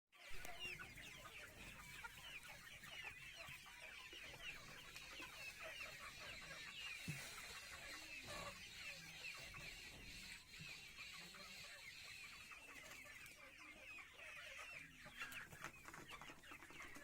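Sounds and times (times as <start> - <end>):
chicks peeping: 0.2 - 17.0.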